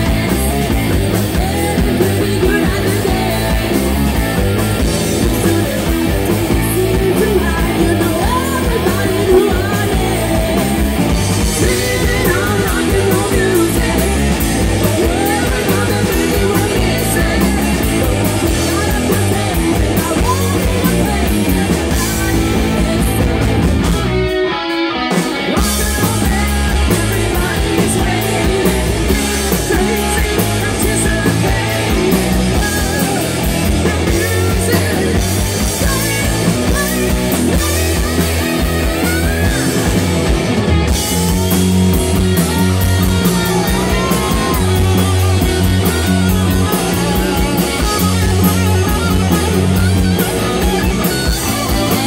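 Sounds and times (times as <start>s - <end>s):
woman singing: 0.0s - 23.6s, 25.5s - 40.0s, 40.9s - 52.0s
live rock band playing: 0.0s - 52.0s.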